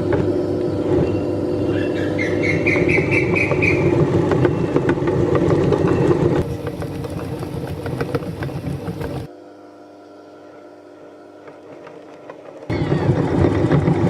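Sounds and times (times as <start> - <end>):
meat grinder motor running: 0.0 - 14.0.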